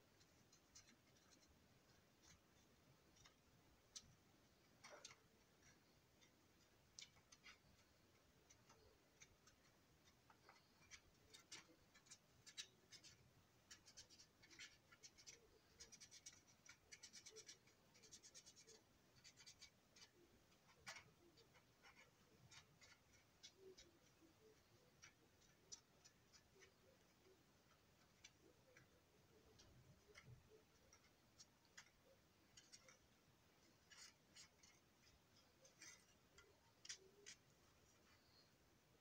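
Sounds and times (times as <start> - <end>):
colouring tool scratching plastic: 0.1 - 38.5.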